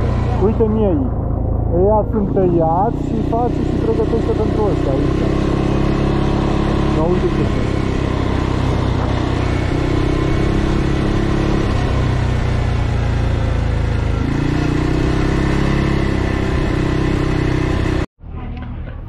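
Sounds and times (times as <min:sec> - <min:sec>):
atv engine running: 0:00.0 - 0:18.1.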